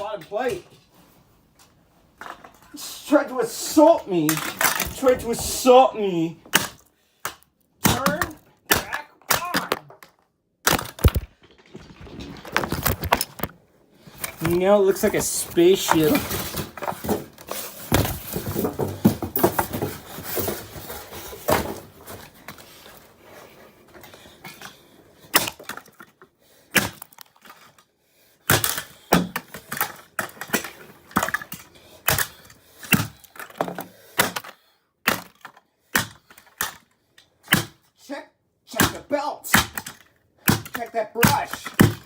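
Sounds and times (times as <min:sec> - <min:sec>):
hard knocks and cracks: 0:03.8 - 0:05.8, 0:06.4 - 0:13.6, 0:14.2 - 0:22.7, 0:24.0 - 0:27.8, 0:28.5 - 0:37.9, 0:38.7 - 0:42.0.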